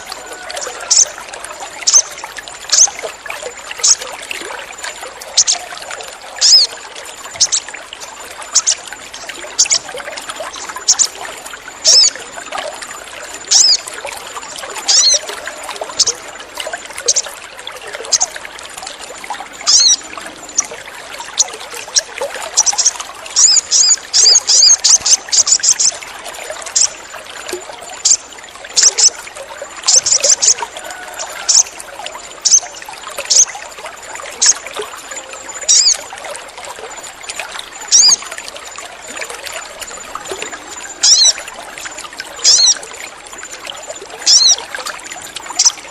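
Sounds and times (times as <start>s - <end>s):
trickling water: 0.0s - 45.9s.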